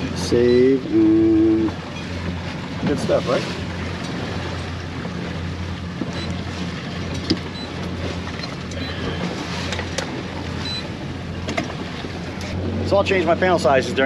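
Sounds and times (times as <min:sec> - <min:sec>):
boat engine humming: 0:00.0 - 0:14.0
water noise: 0:00.0 - 0:14.0
wind: 0:00.0 - 0:14.0.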